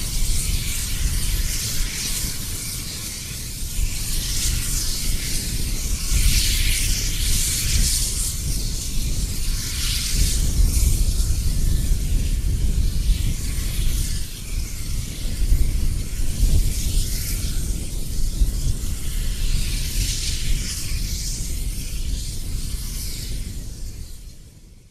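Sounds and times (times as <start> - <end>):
hissing steam: 0.0 - 24.9.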